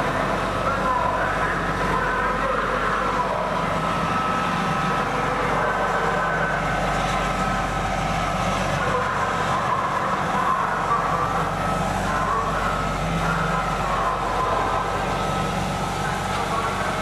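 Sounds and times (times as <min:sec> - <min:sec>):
faint wavering whine: 0:00.0 - 0:17.0
radio static and hum: 0:00.0 - 0:17.0.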